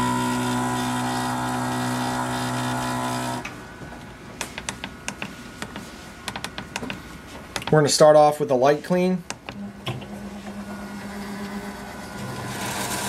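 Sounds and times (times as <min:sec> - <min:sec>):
printer mechanical hum: 0:00.0 - 0:08.2, 0:09.2 - 0:13.0.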